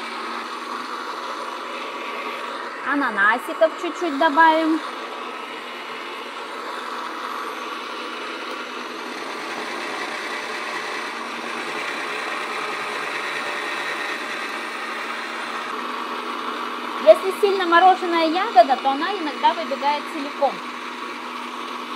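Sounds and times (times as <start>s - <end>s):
blade grinding frozen fruit: 0.0s - 21.9s
dessert maker motor humming: 0.0s - 21.9s.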